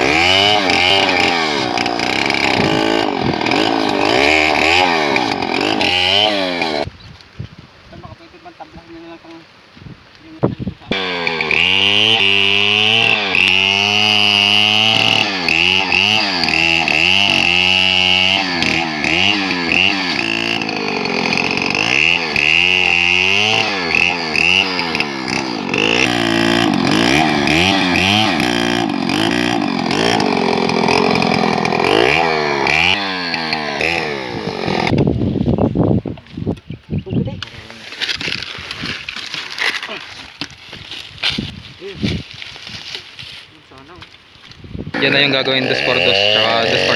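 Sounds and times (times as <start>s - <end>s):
chainsaw cutting wood: 0.0s - 6.9s, 10.8s - 35.1s, 38.0s - 43.2s, 44.6s - 46.9s.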